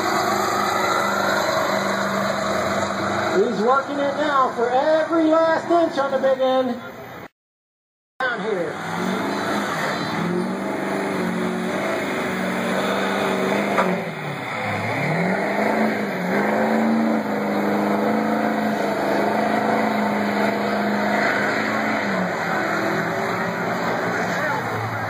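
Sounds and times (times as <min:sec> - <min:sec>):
truck engine revving under load: 0:00.0 - 0:04.5, 0:08.6 - 0:25.0.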